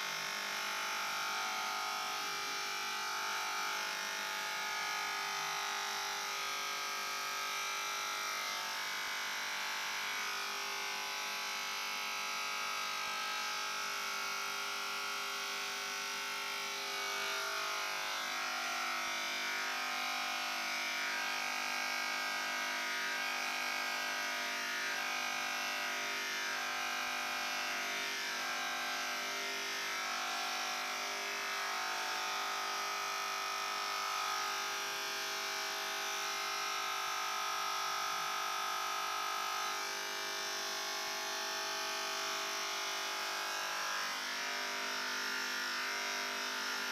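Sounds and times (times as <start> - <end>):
electric hair clipper buzzing: 0.0 - 3.9, 7.2 - 9.0, 10.1 - 46.9.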